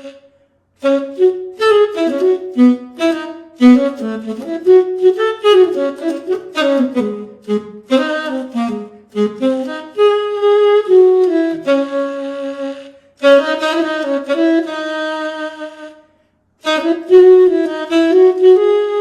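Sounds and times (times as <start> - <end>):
tenor saxophone melody: 0.0 - 19.0.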